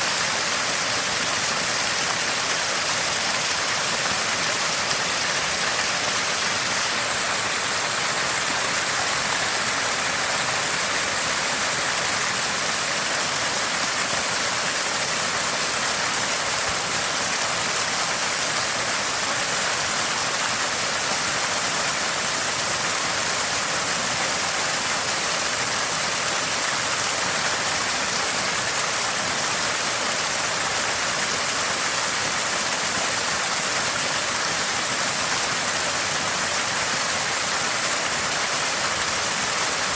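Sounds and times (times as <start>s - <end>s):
spring water gushing and gurgling: 0.0s - 39.9s.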